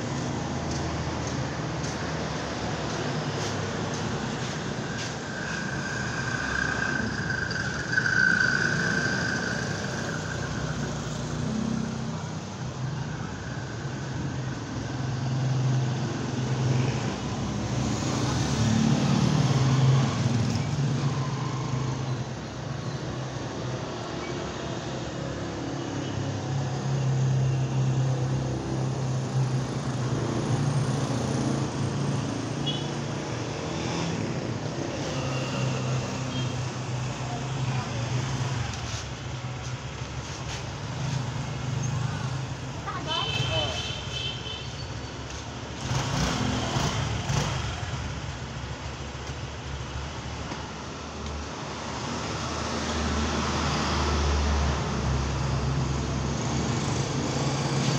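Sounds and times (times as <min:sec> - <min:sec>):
vehicle engines passing: 0:00.0 - 0:57.9.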